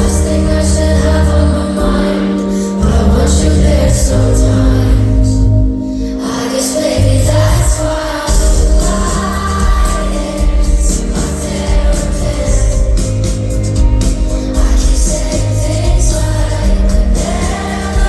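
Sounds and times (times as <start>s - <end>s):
crowd singing along: 0.0s - 18.0s
lead singer singing: 0.0s - 18.0s
live pop band with heavy bass: 0.0s - 18.0s.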